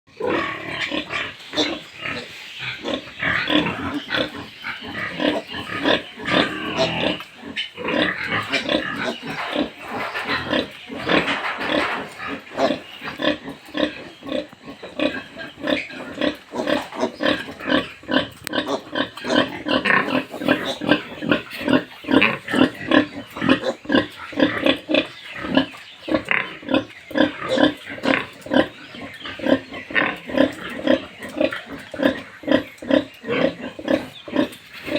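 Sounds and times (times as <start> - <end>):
pigs grunting: 0.1 - 34.9
pigs squealing: 0.1 - 34.9.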